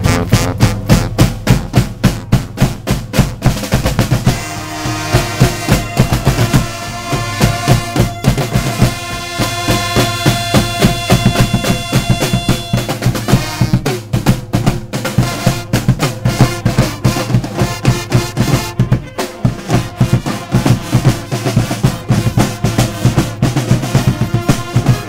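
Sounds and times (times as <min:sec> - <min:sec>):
bass drum: 0:00.0 - 0:25.0
snare drums playing fast cadence: 0:00.0 - 0:25.0.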